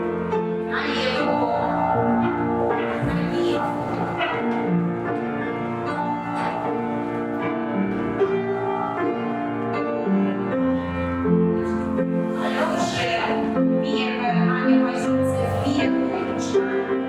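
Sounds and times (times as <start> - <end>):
piano melody with chords: 0.0 - 17.0.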